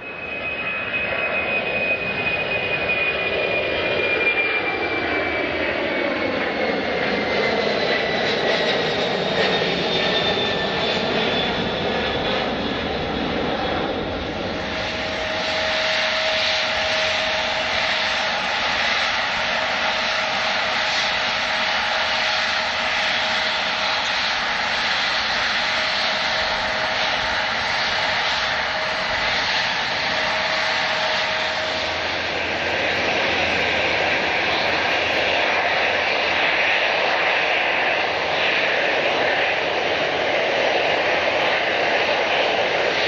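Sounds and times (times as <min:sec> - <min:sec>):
airliner engines rushing: 0:00.0 - 0:43.0
steady engine whine: 0:00.0 - 0:43.0.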